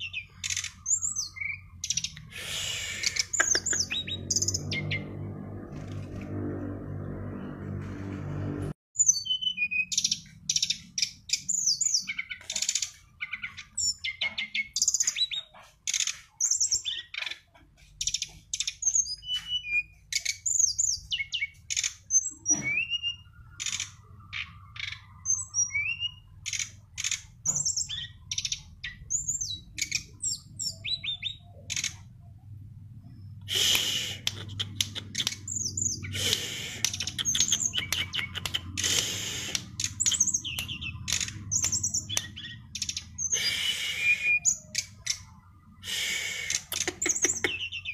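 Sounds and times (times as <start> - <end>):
songbird singing: 0.0 - 5.5, 9.0 - 47.9.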